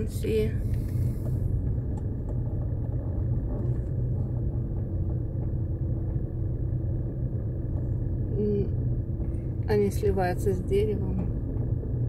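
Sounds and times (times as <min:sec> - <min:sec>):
car driving rumble inside cabin: 0:00.0 - 0:12.0
faint engine hum: 0:00.0 - 0:12.0.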